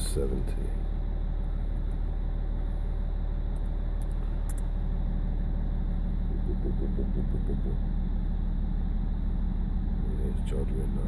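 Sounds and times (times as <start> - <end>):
diesel engine idling unevenly: 0.0 - 11.0
pulsing engine judder: 0.0 - 11.0.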